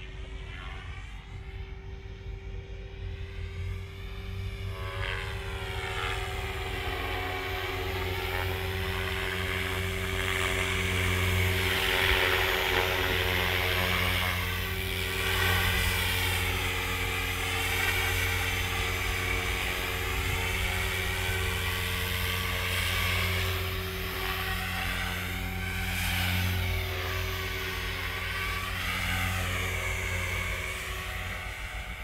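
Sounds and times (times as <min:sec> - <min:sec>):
model helicopter rotor whine: 0:00.0 - 0:32.0.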